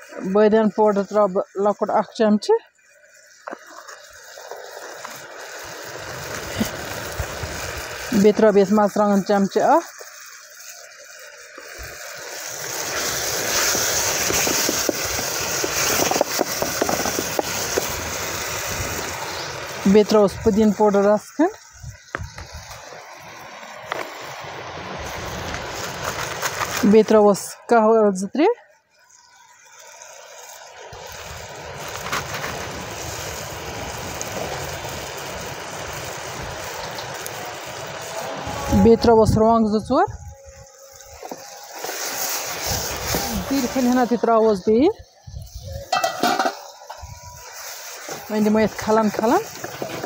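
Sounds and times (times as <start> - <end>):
paste sizzling in a pot: 0.0 - 50.0.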